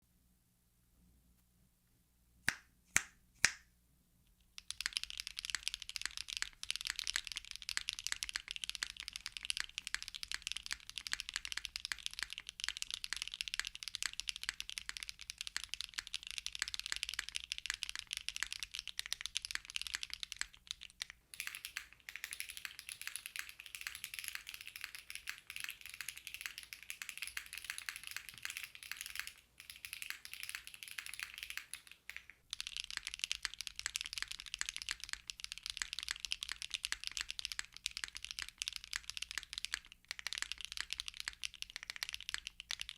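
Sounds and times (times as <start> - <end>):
sharp snaps: 2.4 - 3.7, 4.3 - 42.9
mechanical keyboard typing: 4.6 - 42.9.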